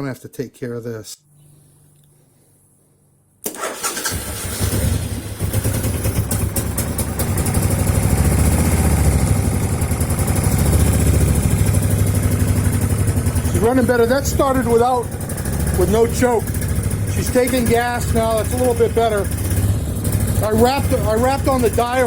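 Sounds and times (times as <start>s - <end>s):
motorcycle engine starting and revving: 3.5s - 22.0s.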